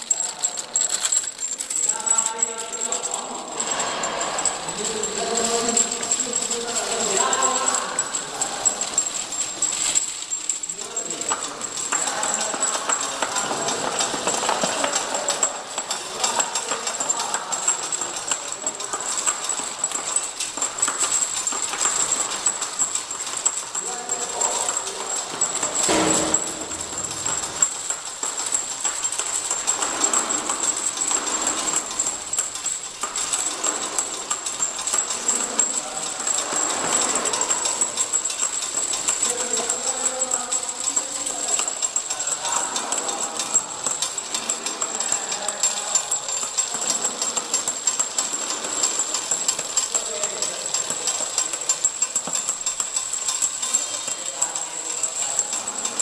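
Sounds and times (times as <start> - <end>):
glass vials clicking and rattling: 0.0 - 56.0.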